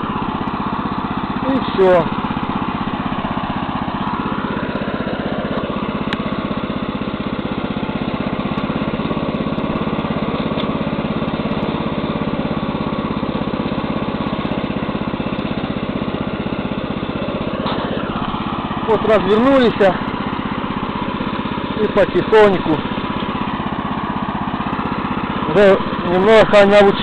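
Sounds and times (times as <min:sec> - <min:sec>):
tiller engine running under load: 0:00.0 - 0:27.0.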